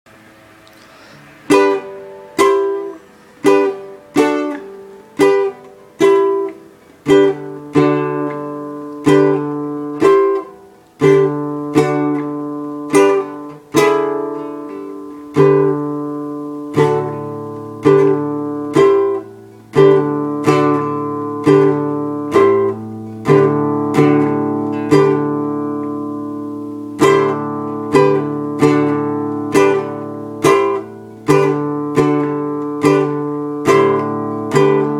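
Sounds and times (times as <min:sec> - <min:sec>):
acoustic guitar strumming chords: 0:00.1 - 0:34.9.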